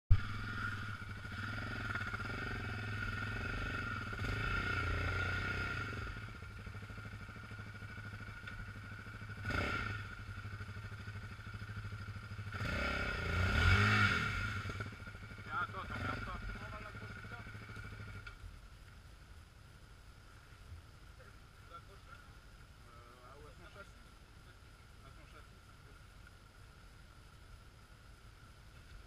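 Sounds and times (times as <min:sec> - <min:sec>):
quad bike engine idling: 0:00.1 - 0:29.0.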